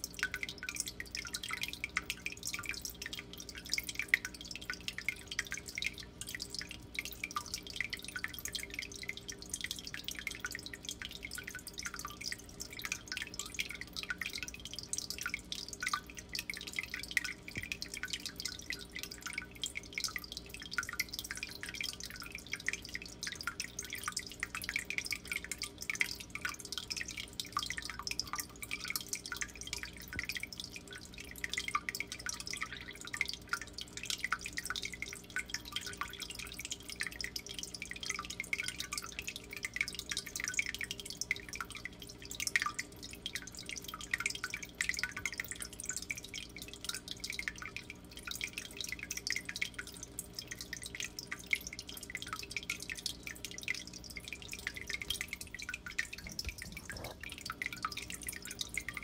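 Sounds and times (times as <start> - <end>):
water trickling into tank: 0.0 - 59.0.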